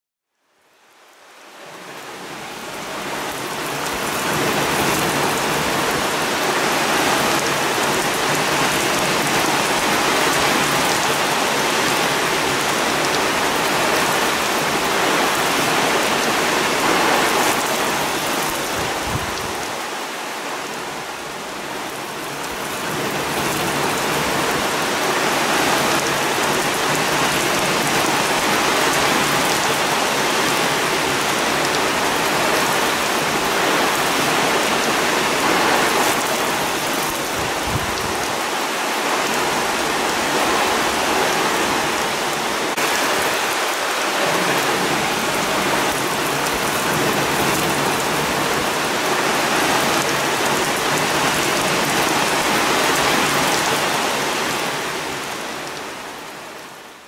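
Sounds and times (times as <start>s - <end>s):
heavy rain pouring: 0.7s - 57.0s.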